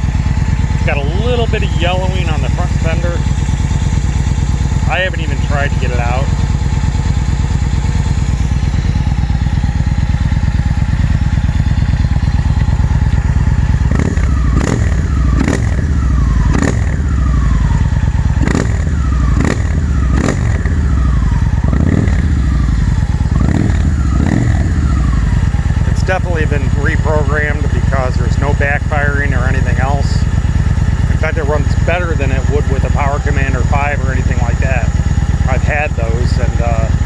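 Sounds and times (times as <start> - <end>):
engine revving: 0.0 - 9.9, 10.6 - 30.5, 31.1 - 37.0
motorcycle engine idling: 0.0 - 37.0.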